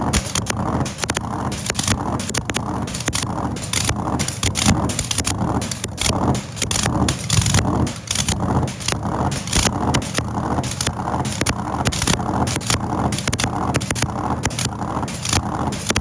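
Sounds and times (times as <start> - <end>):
loud engine running: 0.0 - 16.0
sharp cracks: 0.0 - 16.0.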